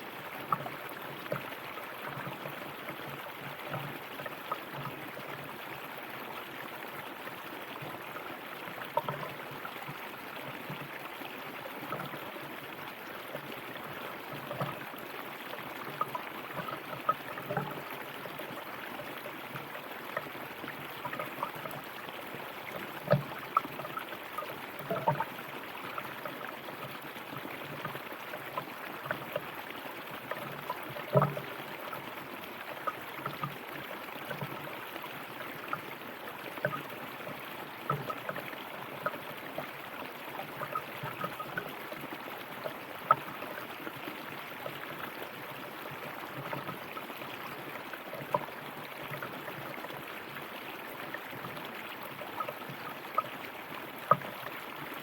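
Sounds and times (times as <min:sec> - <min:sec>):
river water flowing: 0:00.0 - 0:55.0
water splashes and gurgles: 0:00.0 - 0:55.0.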